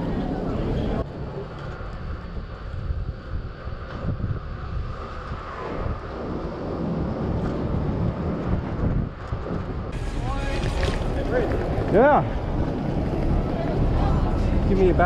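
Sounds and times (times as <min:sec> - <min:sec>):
scooter road rumble: 0:00.0 - 0:15.0
wind buffeting microphone: 0:00.0 - 0:15.0.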